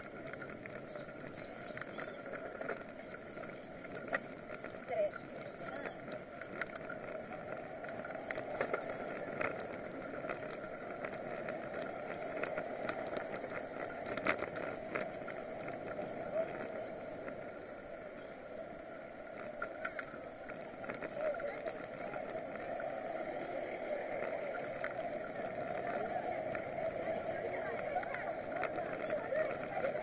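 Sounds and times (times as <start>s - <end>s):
bicycle tyres hissing on pavement: 5.6s - 30.0s.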